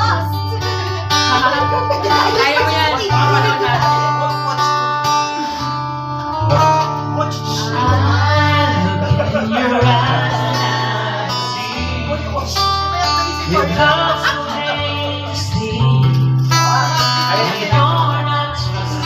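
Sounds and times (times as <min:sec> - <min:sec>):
acoustic guitar music: 0:00.0 - 0:19.0
person singing: 0:00.0 - 0:19.0.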